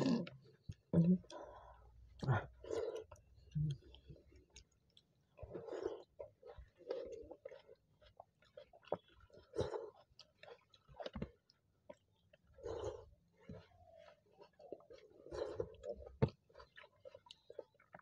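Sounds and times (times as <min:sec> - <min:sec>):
people chewing and eating: 0:00.0 - 0:18.0.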